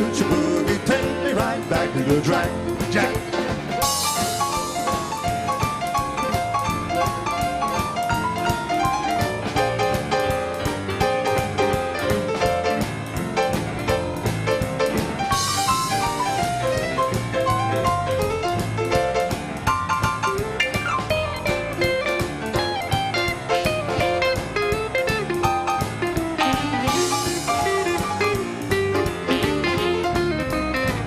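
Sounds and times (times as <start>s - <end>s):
western swing band instrumental: 0.0s - 31.0s.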